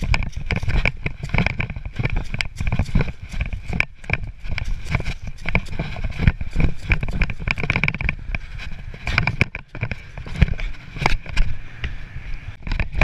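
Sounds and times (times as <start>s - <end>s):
running footsteps on pavement: 0.0s - 12.1s
wind rumble: 0.0s - 13.0s.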